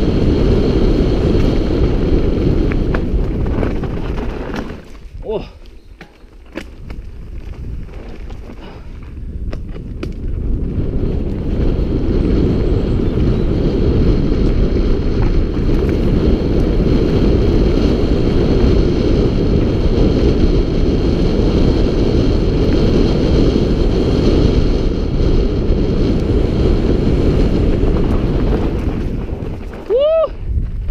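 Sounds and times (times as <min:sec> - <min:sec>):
tyres rumbling on loose dirt: 0:00.0 - 0:30.9
wind buffeting microphone: 0:00.0 - 0:30.9.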